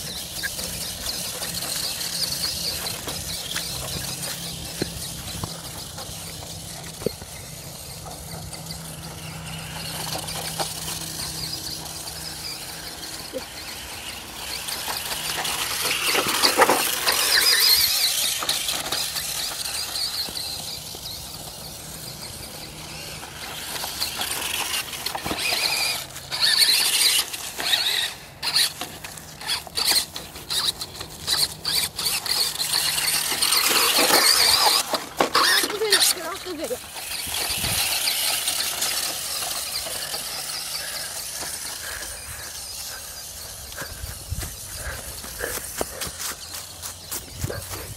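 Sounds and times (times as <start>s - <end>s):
toy car electric motor whining: 0.0s - 47.9s.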